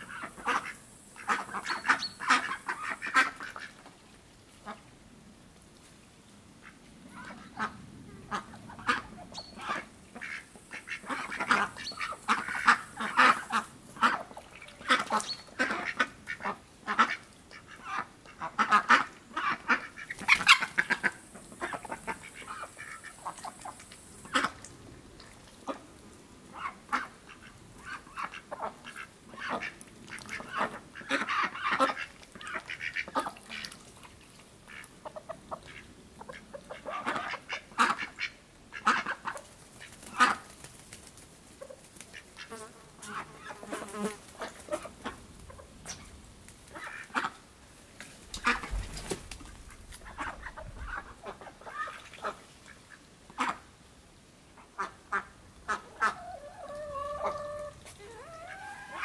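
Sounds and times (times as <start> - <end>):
ducks quacking: 0.0 - 3.9, 6.6 - 24.6, 26.5 - 33.8, 34.7 - 40.5, 41.6 - 47.5, 48.3 - 53.7, 54.6 - 59.0.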